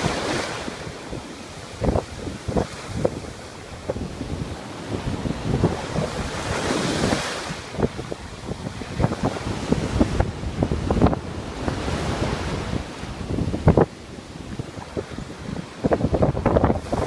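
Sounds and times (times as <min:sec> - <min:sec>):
ocean surf washing up: 0:00.0 - 0:17.0
wind buffeting microphone: 0:00.0 - 0:17.0.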